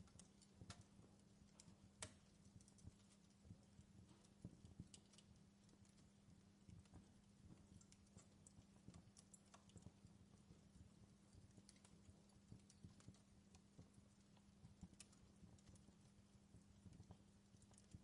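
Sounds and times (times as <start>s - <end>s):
campfire crackling: 0.0s - 18.0s
faint steady hum: 0.0s - 18.0s.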